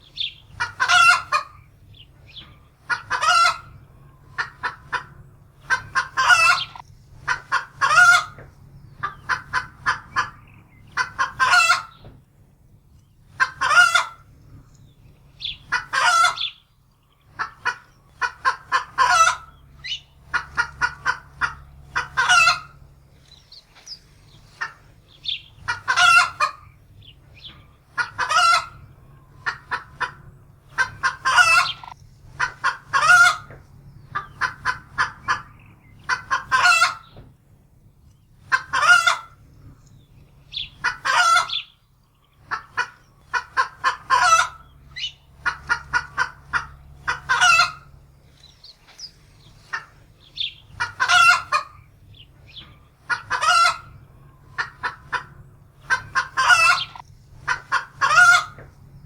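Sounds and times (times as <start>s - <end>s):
hen cackling in alarm: 0.0s - 12.0s, 13.3s - 14.3s, 15.4s - 16.6s, 17.2s - 37.2s, 38.4s - 39.4s, 40.4s - 41.8s, 42.4s - 59.0s.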